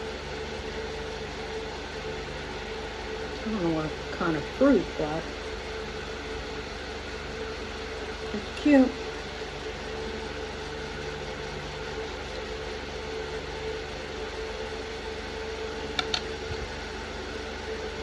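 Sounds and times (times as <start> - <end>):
mechanical background hum: 0.0 - 18.0.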